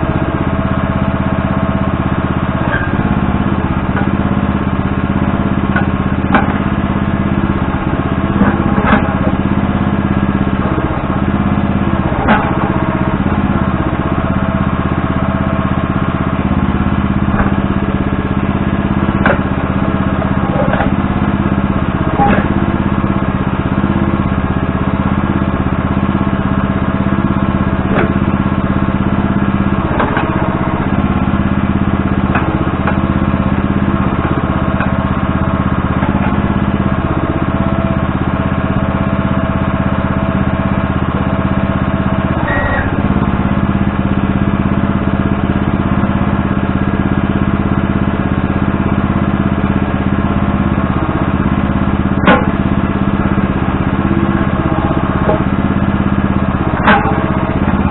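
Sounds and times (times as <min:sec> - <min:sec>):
backhoe engine running: 0:00.0 - 0:57.9.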